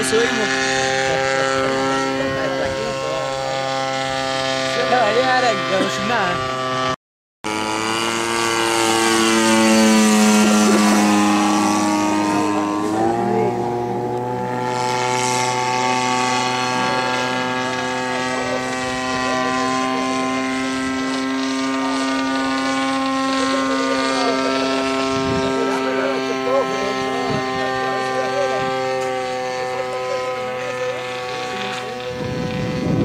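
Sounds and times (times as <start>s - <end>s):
model airplane engine: 0.0s - 33.0s.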